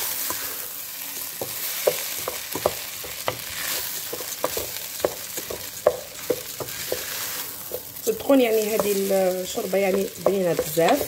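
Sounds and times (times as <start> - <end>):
lentils sizzling in a pot: 0.0 - 11.0
spatula scraping and tapping pot: 1.1 - 11.0.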